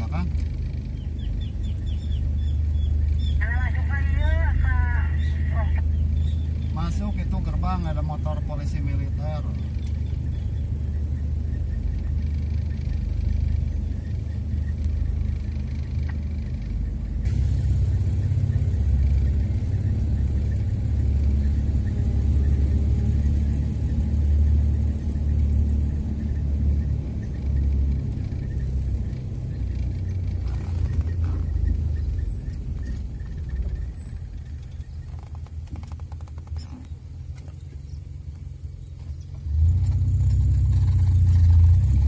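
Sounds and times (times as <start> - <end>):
car engine drone: 0.0 - 42.0
road rumble: 0.0 - 42.0.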